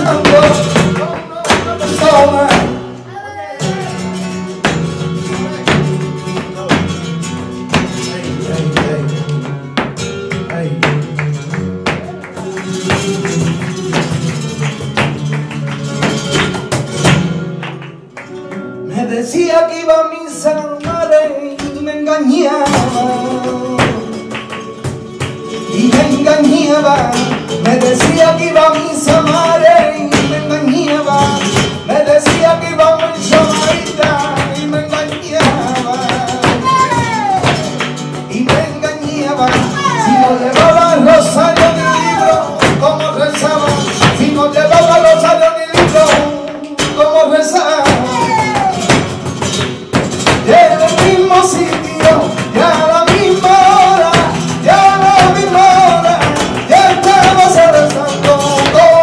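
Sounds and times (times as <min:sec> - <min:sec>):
hand-clapping: 0:00.0 - 0:02.7, 0:04.4 - 0:19.4, 0:22.7 - 0:59.0
dancers' footwork strikes: 0:00.0 - 0:02.9, 0:04.2 - 0:18.7, 0:20.8 - 0:59.0
man singing: 0:00.0 - 0:17.2, 0:18.7 - 0:59.0
flamenco guitar: 0:00.0 - 0:59.0.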